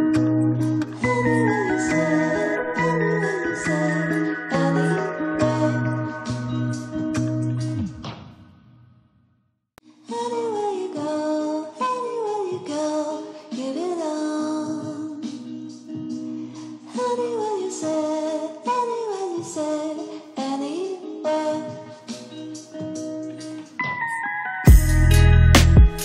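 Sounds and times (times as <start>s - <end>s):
background music with sliding melody: 0.0s - 8.0s, 10.1s - 26.0s.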